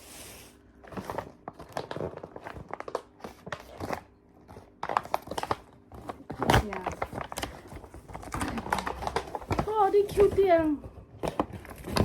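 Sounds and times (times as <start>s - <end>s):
packaging crinkling and rustling: 0.6s - 12.0s.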